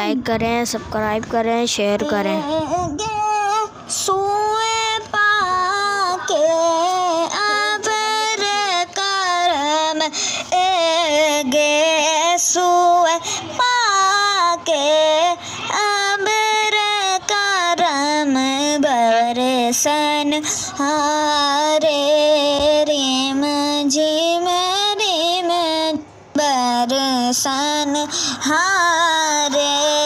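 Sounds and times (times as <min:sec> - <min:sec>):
high voice singing slow melody: 0:01.8 - 0:30.0.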